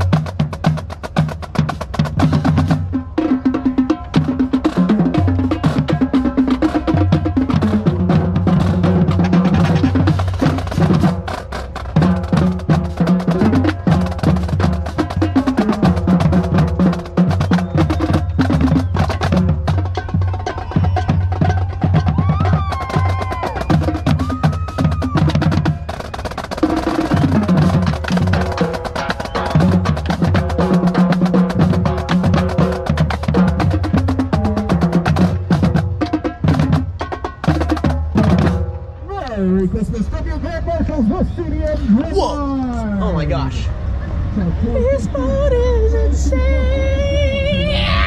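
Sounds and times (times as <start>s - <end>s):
bass drums: 0.0s - 38.8s
marching snare drums: 0.0s - 38.8s.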